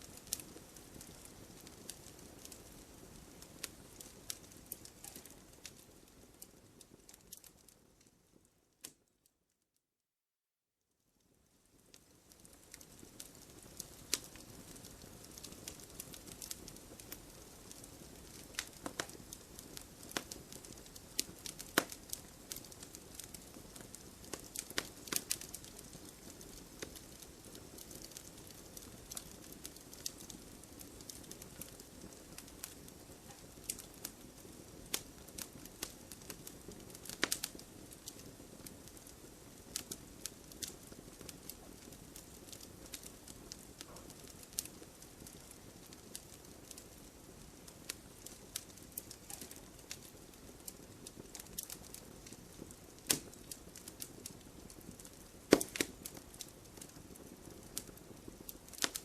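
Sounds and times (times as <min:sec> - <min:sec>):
campfire hissing: 0:00.0 - 0:07.4, 0:11.9 - 0:59.0
fire crackles and pops: 0:00.0 - 0:09.2, 0:11.2 - 0:59.0.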